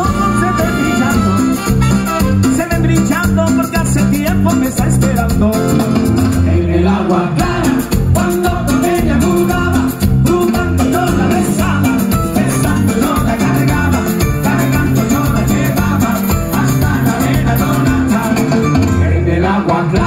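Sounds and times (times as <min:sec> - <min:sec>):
live latin band music: 0:00.0 - 0:20.0
man singing: 0:00.0 - 0:20.0.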